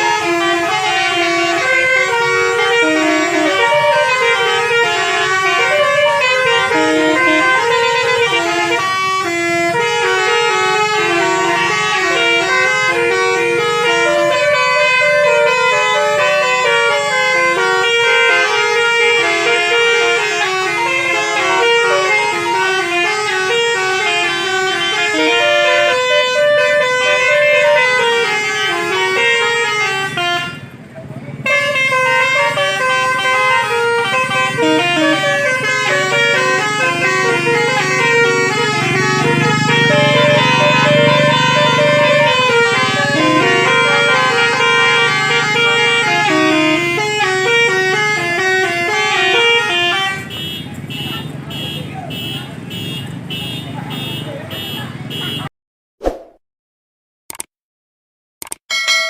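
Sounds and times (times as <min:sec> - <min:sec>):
multi-tone bus horn melody: 0:00.0 - 0:55.5.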